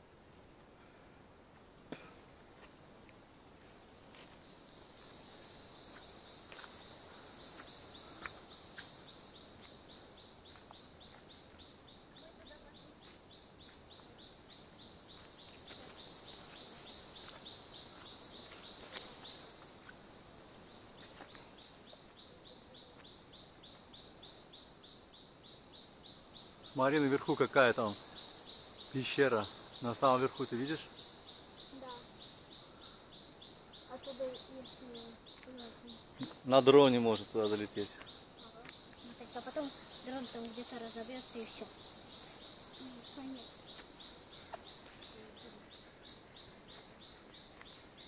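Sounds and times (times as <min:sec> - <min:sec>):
insects buzzing: 0:00.0 - 0:48.0.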